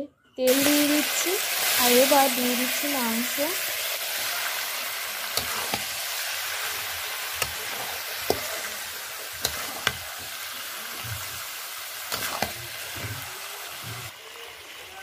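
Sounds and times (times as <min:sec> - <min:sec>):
chicken sizzling in hot oil: 0:00.5 - 0:15.0.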